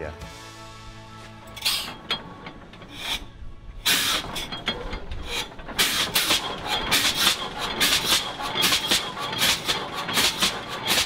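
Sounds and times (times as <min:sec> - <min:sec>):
tractor engine running: 0:00.2 - 0:11.0
exhaust pops: 0:01.4 - 0:11.0.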